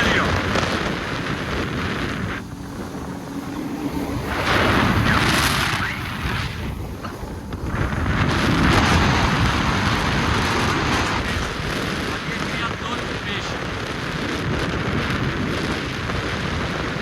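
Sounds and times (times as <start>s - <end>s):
jet ski engine: 0.0s - 17.0s
wind buffeting microphone: 0.0s - 17.0s.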